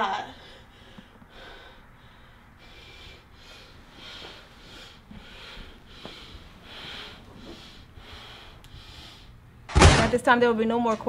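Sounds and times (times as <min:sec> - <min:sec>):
person breathing hard: 0:00.3 - 0:09.4.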